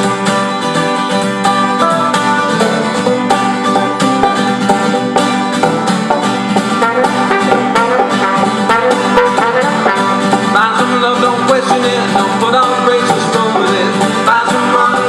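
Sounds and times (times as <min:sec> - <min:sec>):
acoustic folk band playing: 0:00.0 - 0:15.0.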